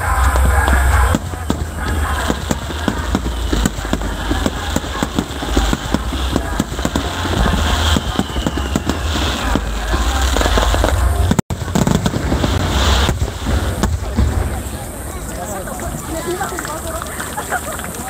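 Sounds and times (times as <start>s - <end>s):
low rumble: 0.0s - 15.1s
fireworks bangs and crackles: 0.0s - 18.0s.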